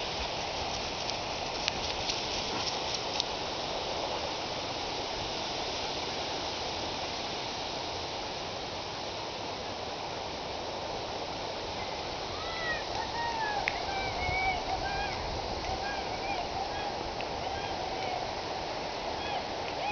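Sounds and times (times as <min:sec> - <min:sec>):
steady rushing outdoor noise: 0:00.0 - 0:19.9.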